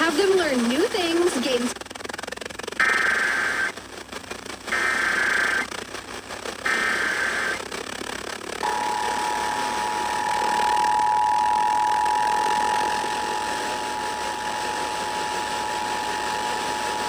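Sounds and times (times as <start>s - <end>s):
radio hiss: 0.0s - 17.0s.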